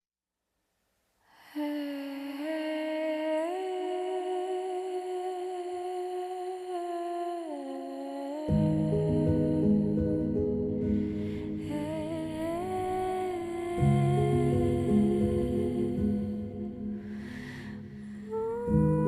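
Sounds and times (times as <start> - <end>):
person humming a slow melody: 1.6 - 19.0.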